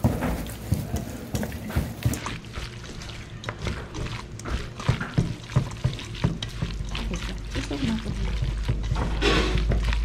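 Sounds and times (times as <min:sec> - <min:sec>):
hand tossing food in dressing: 0:00.3 - 0:10.0.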